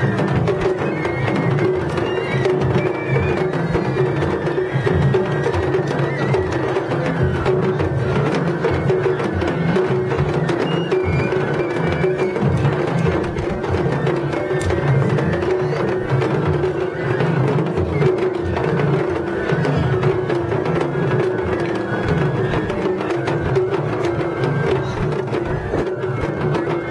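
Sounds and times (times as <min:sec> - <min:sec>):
taiko drums beating: 0:00.0 - 0:26.9.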